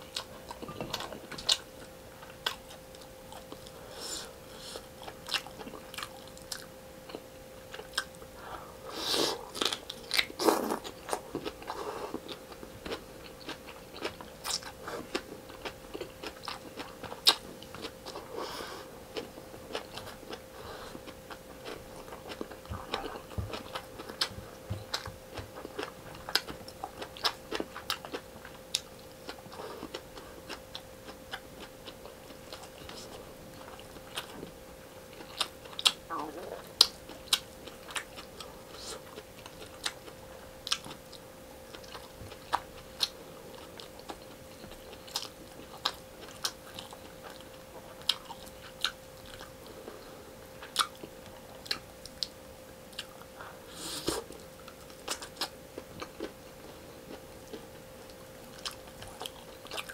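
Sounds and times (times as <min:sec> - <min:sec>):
faint steady hum: 0:00.0 - 0:59.9
person chewing: 0:00.1 - 0:08.2, 0:09.0 - 0:34.5, 0:35.1 - 0:59.9.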